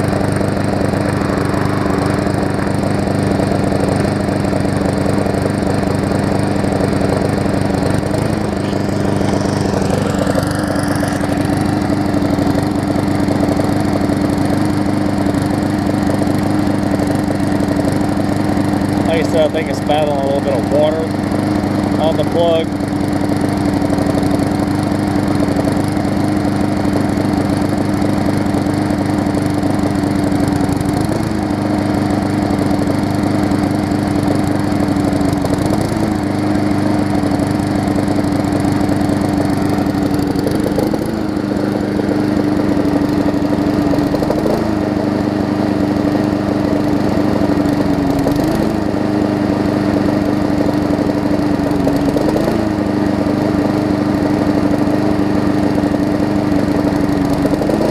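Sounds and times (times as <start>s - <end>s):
lawn mower engine running: 0.0s - 57.9s.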